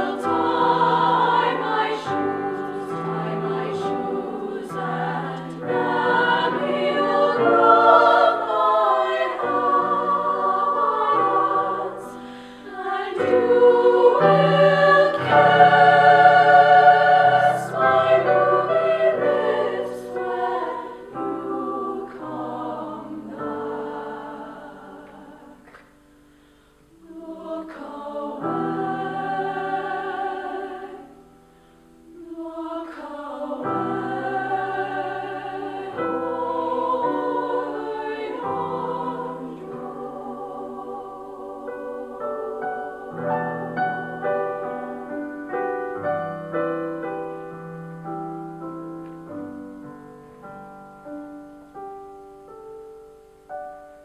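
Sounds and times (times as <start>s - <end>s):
women's choir singing: 0.0s - 26.1s, 26.9s - 31.4s, 32.0s - 47.6s.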